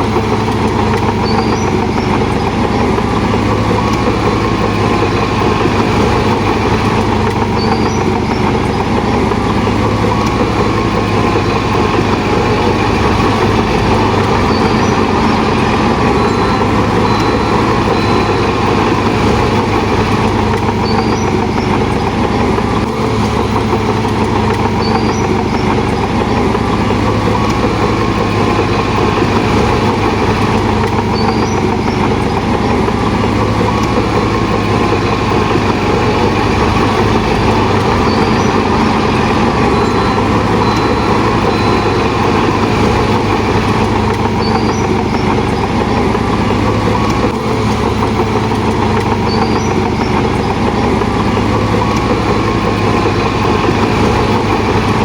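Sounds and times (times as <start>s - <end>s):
bulldozer diesel engine running: 0.0s - 55.0s
faint high chirps: 0.1s - 55.0s.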